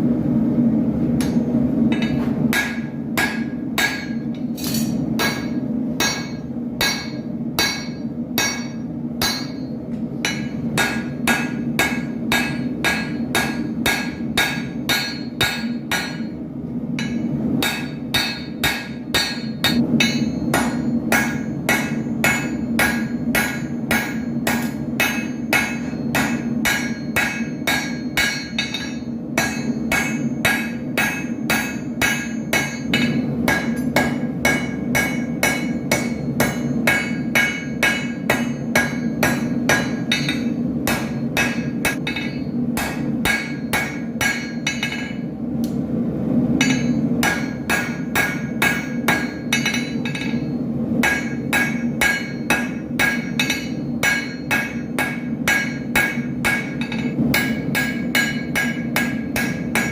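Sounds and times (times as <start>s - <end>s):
hammer striking steel on anvil: 1.2s - 45.8s, 46.6s - 59.9s.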